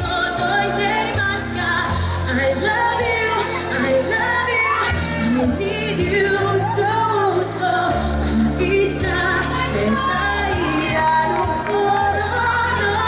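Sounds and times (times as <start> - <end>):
person singing through microphone: 0.0 - 13.0
pop backing track: 0.0 - 13.0.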